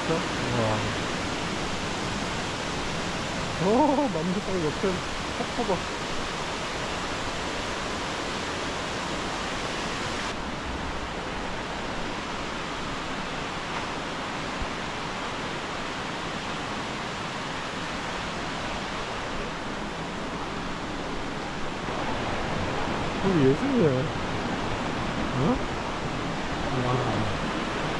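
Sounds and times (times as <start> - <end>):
stream water rushing over rocks: 0.0 - 27.9.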